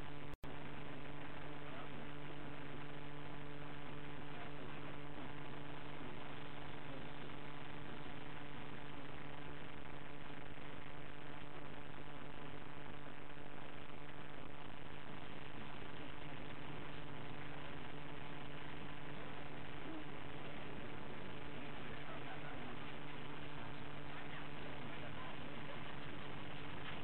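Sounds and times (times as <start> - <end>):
constant hiss: 0.0 - 27.0
electrical mains hum: 0.0 - 27.0.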